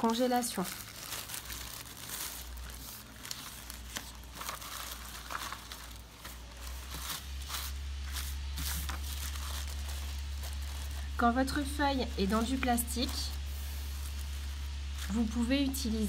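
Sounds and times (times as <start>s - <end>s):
plastic bag crinkling: 0.0s - 15.5s
low hum: 0.0s - 16.0s.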